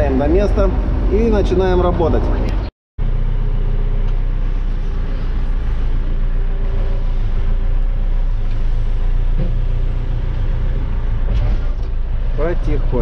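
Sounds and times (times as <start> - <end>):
backhoe diesel engine droning: 2.4 - 13.0.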